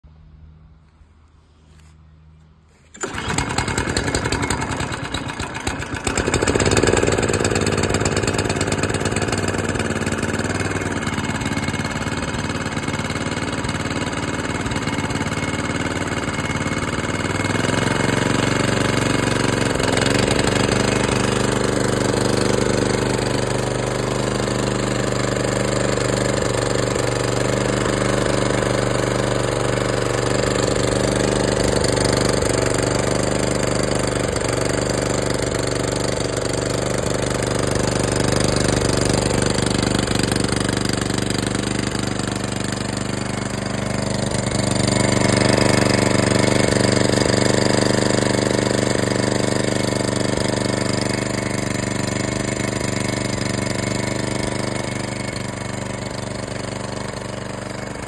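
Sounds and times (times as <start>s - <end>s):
mower engine running: 2.7s - 58.0s.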